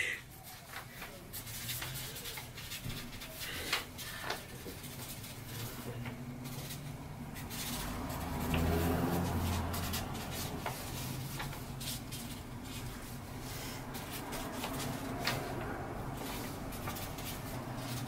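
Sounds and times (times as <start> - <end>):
markers scratching on paper: 0.4 - 18.0.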